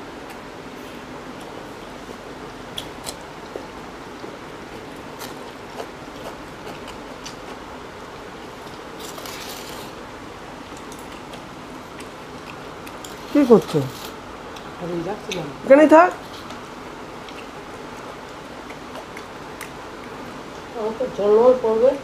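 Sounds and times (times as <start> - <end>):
people eating by hand: 0.0 - 22.0
steady background hiss: 0.0 - 22.0.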